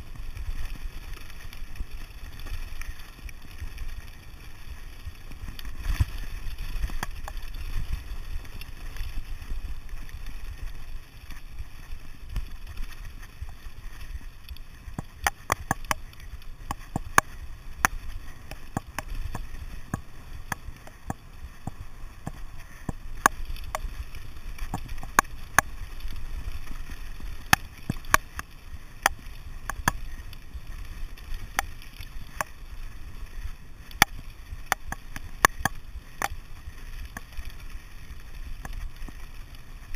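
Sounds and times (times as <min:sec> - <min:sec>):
bike rattling over stones: 0:00.0 - 0:39.9
mountain bike on gravel track: 0:00.0 - 0:39.9
wind rumble on microphone: 0:00.0 - 0:39.9.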